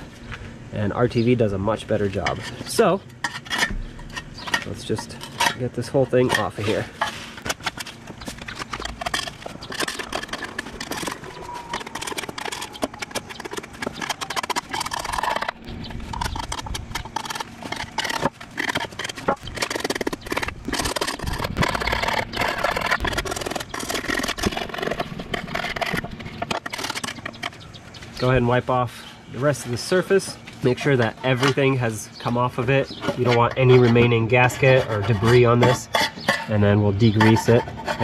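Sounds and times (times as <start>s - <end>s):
scraper scraping gasket: 2.1s - 28.4s, 29.5s - 38.0s.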